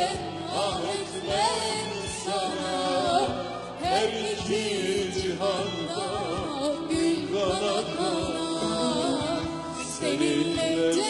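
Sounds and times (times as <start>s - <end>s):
live band playing pop-folk: 0.0s - 11.0s.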